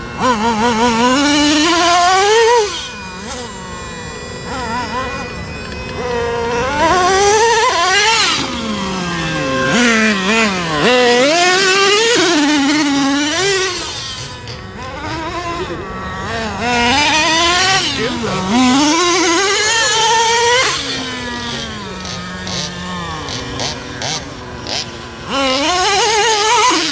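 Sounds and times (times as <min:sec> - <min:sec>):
small nitro engine revving: 0:00.0 - 0:26.9.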